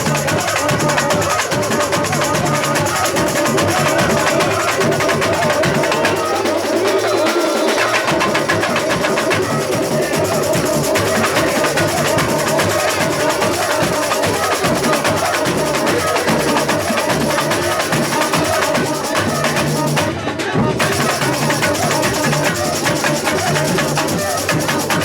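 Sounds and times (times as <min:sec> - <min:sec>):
samba drums and percussion: 0:00.0 - 0:25.0.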